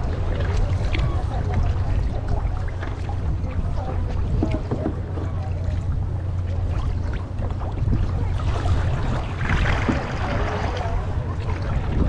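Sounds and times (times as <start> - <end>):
boat engines rumbling: 0.0 - 12.0
water splashing: 0.0 - 12.0.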